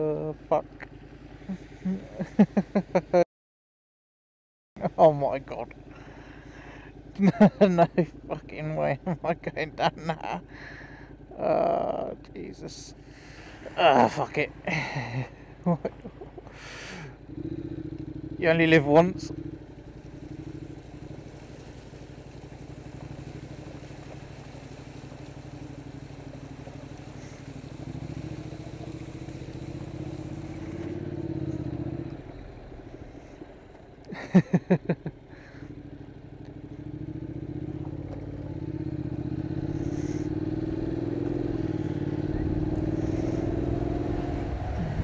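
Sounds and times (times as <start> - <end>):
motorcycle engine running: 0.0 - 3.2, 4.8 - 45.0.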